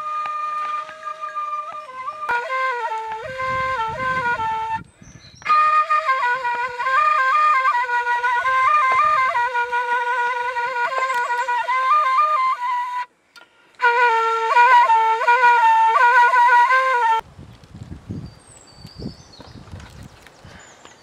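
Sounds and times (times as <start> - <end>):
metal flute melody: 0.0 - 17.2.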